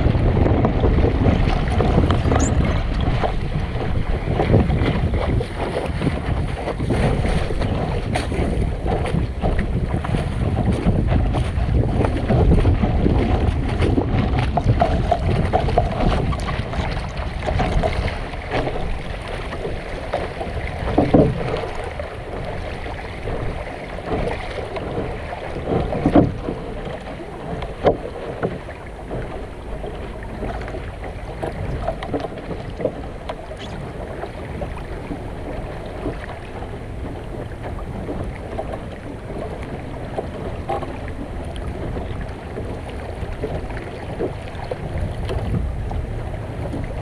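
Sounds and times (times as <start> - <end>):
water washing along hull: 0.0 - 47.0
wind on microphone: 0.0 - 47.0.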